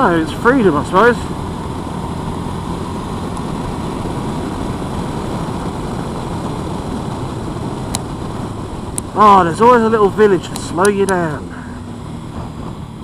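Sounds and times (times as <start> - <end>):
motorcycle riding on road: 0.0 - 13.0.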